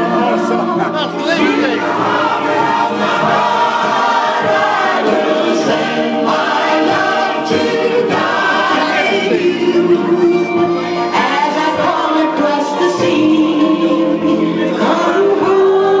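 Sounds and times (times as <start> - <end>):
group of people singing: 0.0 - 16.0
loud music: 0.0 - 16.0.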